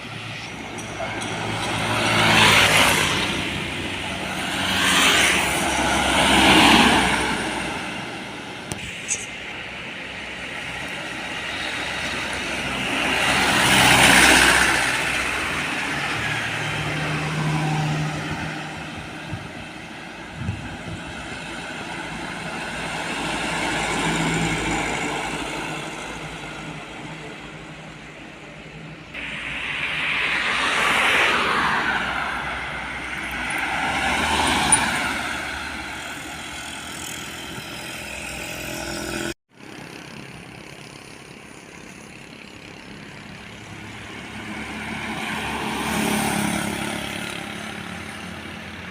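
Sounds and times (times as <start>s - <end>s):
trucks passing by: 0.0s - 48.9s.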